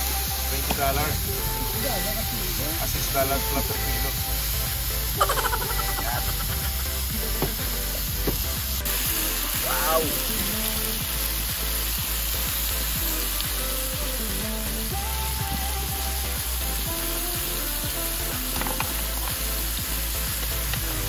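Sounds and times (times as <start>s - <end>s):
meat sizzling on a grill pan: 0.0s - 21.0s
music playing: 0.0s - 21.0s.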